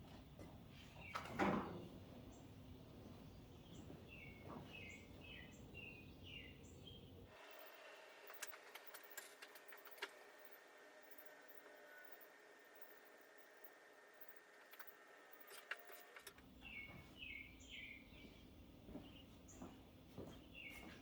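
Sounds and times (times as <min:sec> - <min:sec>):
bird chirping: 0:00.3 - 0:07.3, 0:08.3 - 0:21.0.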